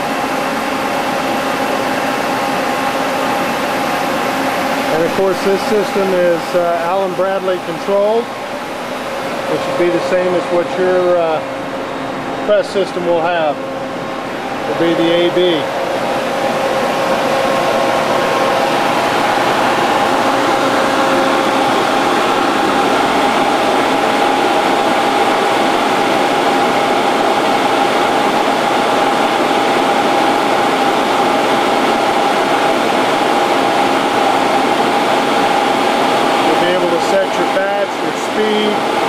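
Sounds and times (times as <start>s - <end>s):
machinery hum with whine: 0.0s - 39.0s.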